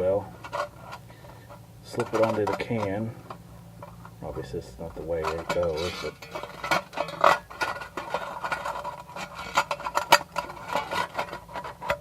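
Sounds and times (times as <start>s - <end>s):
sheet metal clinking and scraping: 0.0s - 12.0s.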